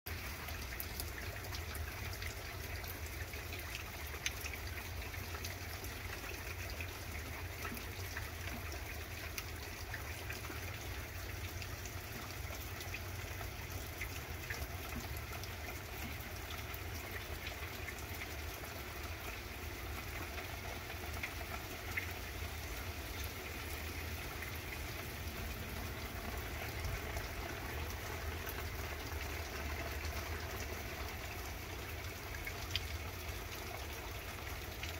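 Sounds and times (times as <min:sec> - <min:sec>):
rain pattering on leaves: 0:00.1 - 0:34.9.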